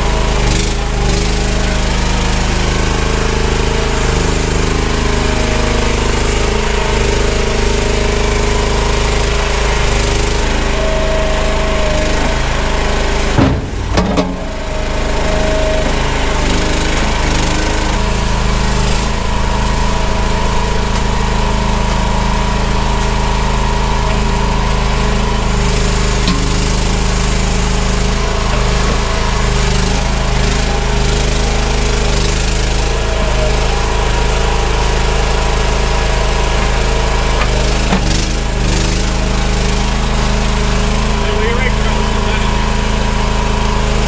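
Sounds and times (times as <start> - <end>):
mini skid steer engine running: 0.0 - 44.0.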